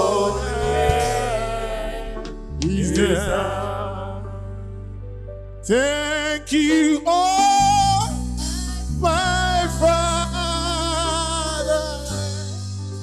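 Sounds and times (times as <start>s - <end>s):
keyboard and bass chords: 0.0s - 13.0s.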